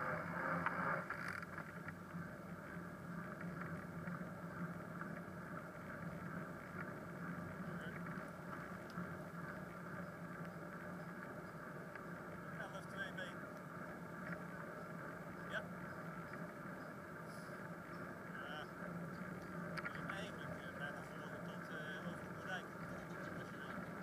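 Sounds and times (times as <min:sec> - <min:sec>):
bicycle rumbling on wet road: 0:00.0 - 0:24.0.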